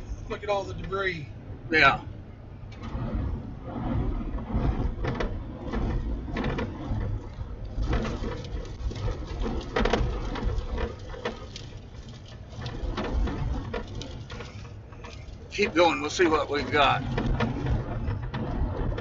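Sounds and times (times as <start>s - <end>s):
gusty wind on microphone: 0.0s - 19.0s
knocks and spatters: 2.8s - 19.0s.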